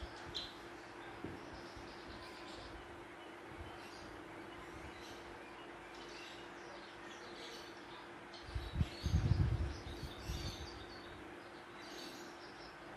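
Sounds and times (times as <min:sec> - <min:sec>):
faint low hum: 0:00.0 - 0:12.9
small birds chirping: 0:00.0 - 0:12.9.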